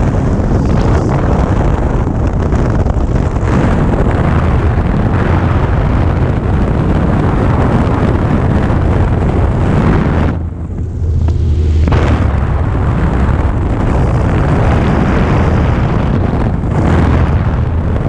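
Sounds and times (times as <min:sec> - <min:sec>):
light aircraft engine full power: 0:00.0 - 0:18.0
wind buffeting microphone: 0:00.0 - 0:18.0.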